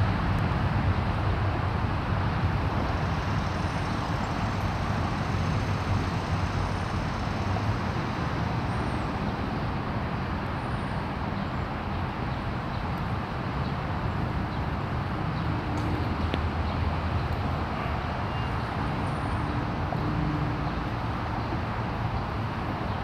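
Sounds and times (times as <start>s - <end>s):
distant city traffic hum: 0.0s - 23.0s.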